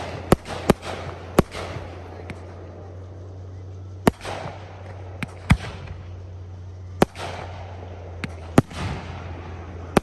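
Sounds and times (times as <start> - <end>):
fireworks bangs: 0.0 - 10.0
rumble after bangs: 0.0 - 10.0
steady low hum: 0.0 - 10.0.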